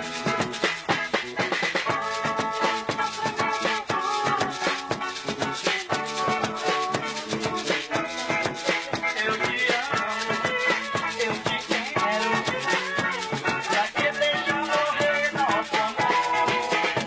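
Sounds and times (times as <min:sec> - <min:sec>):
lively dance music: 0:00.0 - 0:17.0.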